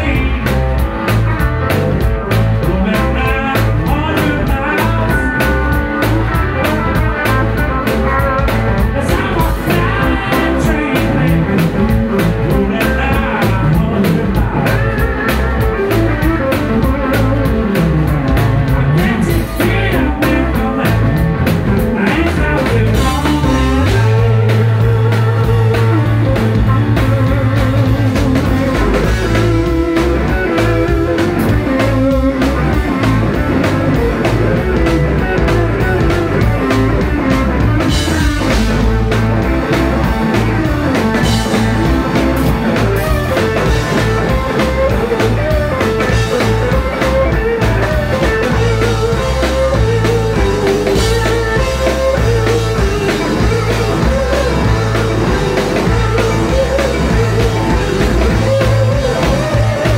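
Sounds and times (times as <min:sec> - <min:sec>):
drum kit beat: 0:00.0 - 0:59.9
electric bass: 0:00.0 - 0:59.9
electric guitar lead lines: 0:00.0 - 0:59.9.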